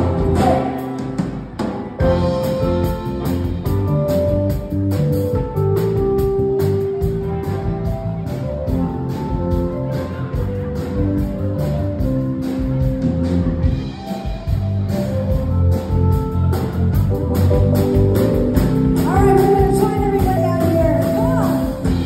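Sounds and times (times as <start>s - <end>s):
live band with electric guitar: 0.0s - 22.0s.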